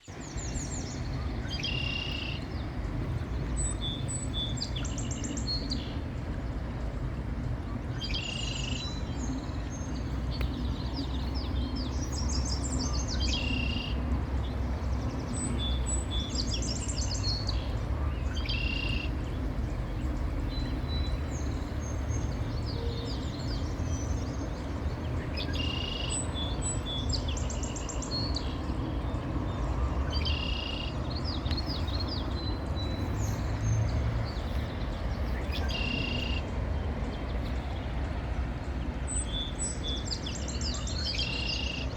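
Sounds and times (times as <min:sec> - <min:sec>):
birds chirping: 0:00.0 - 0:41.9
steady low rumble: 0:00.1 - 0:39.3.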